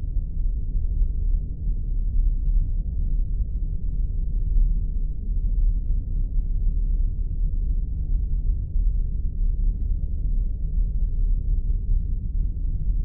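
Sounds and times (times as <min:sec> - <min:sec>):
deep rumbling drone: 0:00.0 - 0:13.0.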